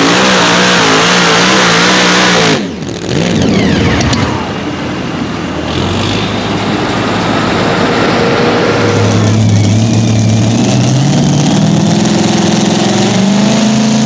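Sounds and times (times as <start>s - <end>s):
tractor engine revving and idling: 0.0s - 14.0s.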